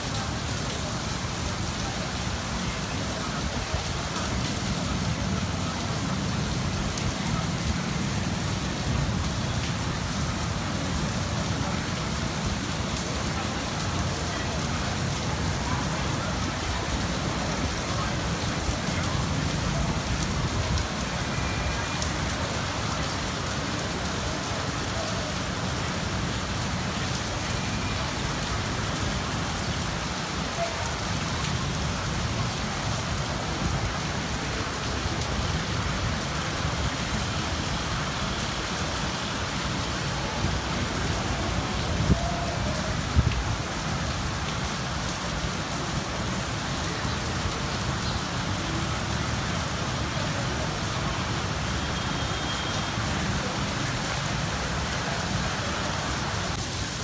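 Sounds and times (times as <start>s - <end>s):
steady rain on rooftops: 0.0s - 57.0s.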